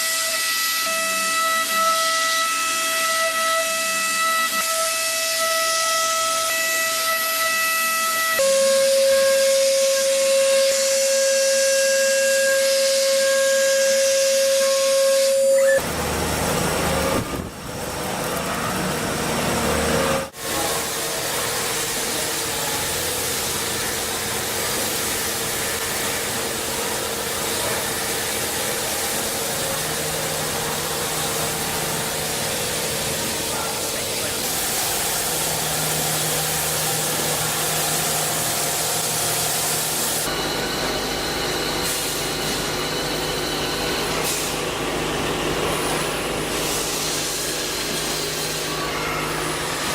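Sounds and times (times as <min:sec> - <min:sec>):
hiss of machining noise: 0:00.0 - 0:49.9
machine spindle whining: 0:00.0 - 0:49.9.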